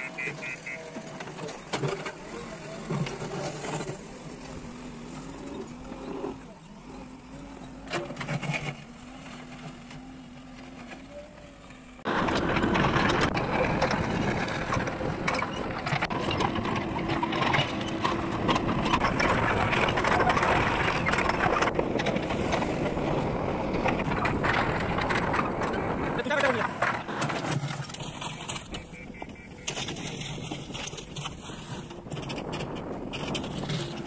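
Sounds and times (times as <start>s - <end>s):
bucket digging rocky soil: 0.0s - 6.6s, 12.1s - 34.0s
backhoe loader diesel engine: 0.0s - 34.0s.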